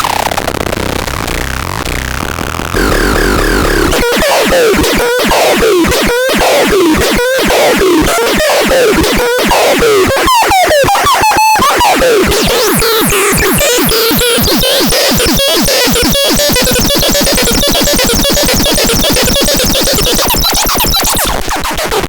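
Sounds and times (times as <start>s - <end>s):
held electronic tone: 2.8s - 21.2s
rapid falling electronic zaps: 2.8s - 21.2s.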